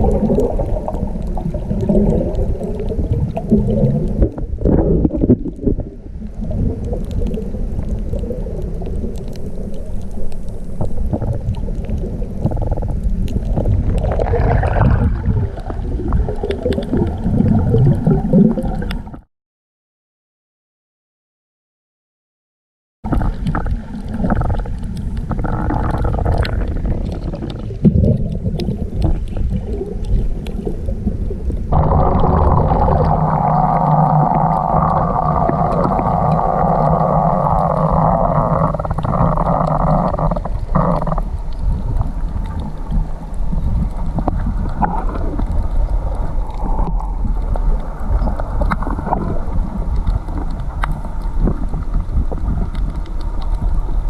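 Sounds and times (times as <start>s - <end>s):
underwater clicks and water sounds: 0.0s - 19.2s, 23.1s - 54.0s
underwater low rumble: 0.0s - 19.2s, 23.0s - 54.0s.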